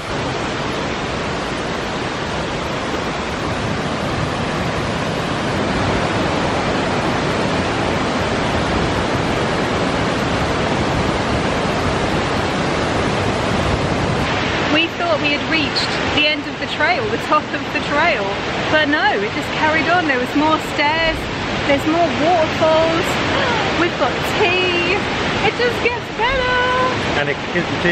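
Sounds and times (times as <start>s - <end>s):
stream cascading over boulders: 0.0s - 27.9s
waterfall rushing: 0.0s - 27.9s.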